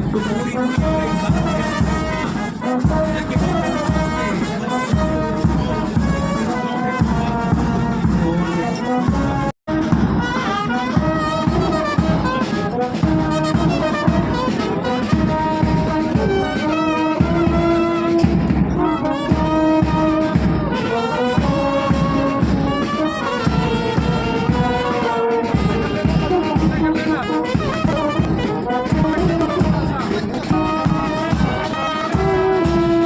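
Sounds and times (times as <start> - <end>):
brass music with drum beat: 0.0 - 33.0.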